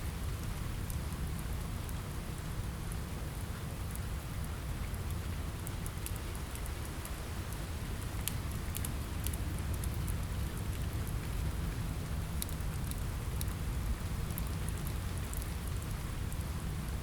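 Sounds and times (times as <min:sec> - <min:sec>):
crackling fireplace: 0:00.0 - 0:17.0
rain on a window: 0:00.0 - 0:17.0.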